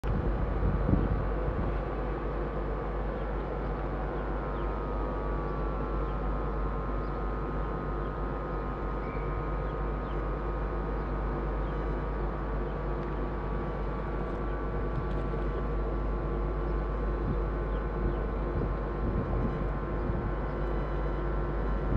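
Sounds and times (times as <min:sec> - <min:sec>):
constant whining tones: 0:00.0 - 0:21.9
stationary train hum and rumble: 0:00.0 - 0:21.9.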